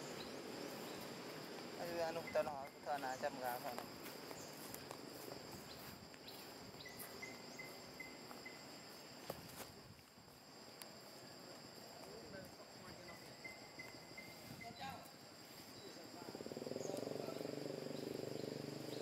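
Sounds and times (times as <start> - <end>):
high-pitched insect drone: 0.0 - 9.6, 11.0 - 19.0.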